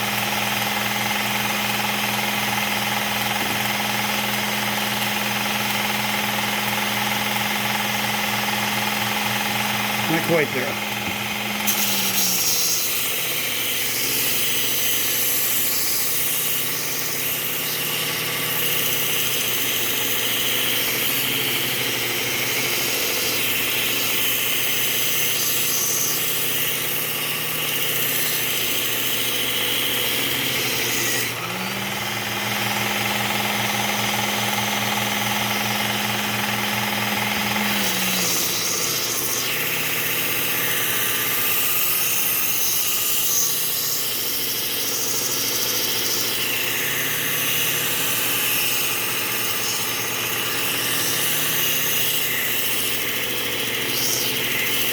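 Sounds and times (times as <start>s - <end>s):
belt sharpener motor hum: 0.0s - 54.9s
blade grinding on belt: 0.0s - 54.9s.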